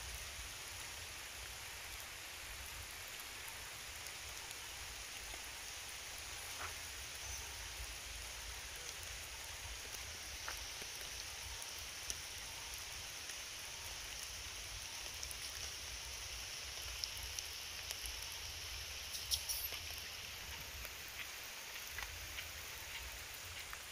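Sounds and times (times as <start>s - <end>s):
rain on leaves and ground: 0.0s - 23.9s.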